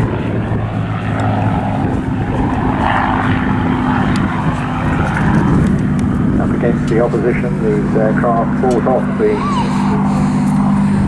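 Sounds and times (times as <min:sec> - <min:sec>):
piston engines droning in flight: 0:00.0 - 0:11.0
propeller noise: 0:00.0 - 0:11.0.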